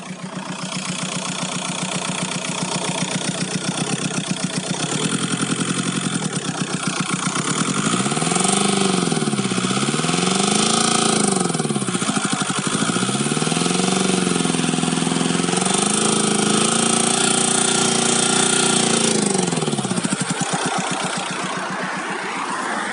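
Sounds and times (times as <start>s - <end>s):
diesel engine idling and revving: 0.0s - 22.9s.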